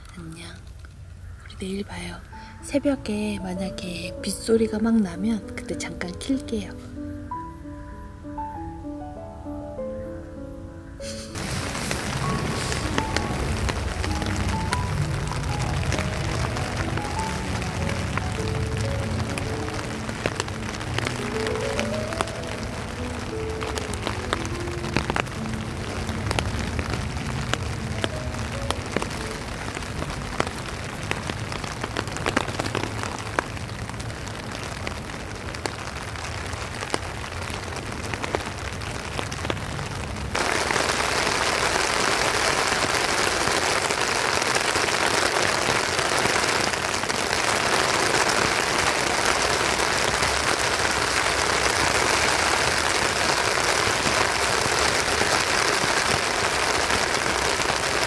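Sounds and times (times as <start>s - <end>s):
rain on tent fabric: 0.0s - 6.7s, 11.1s - 58.0s.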